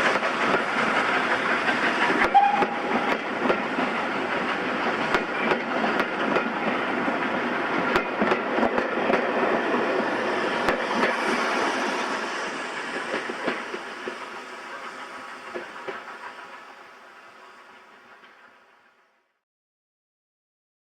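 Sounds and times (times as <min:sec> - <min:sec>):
wheels clicking over rail joints: 0:00.0 - 0:16.8
train rumbling past: 0:00.0 - 0:19.4.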